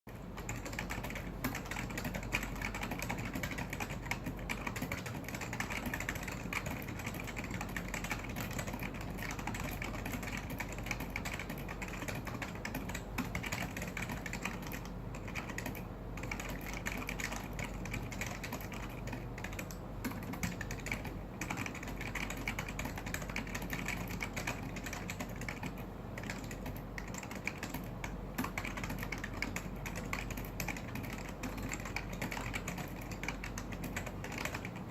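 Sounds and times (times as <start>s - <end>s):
mechanical keyboard typing: 0.1s - 34.9s.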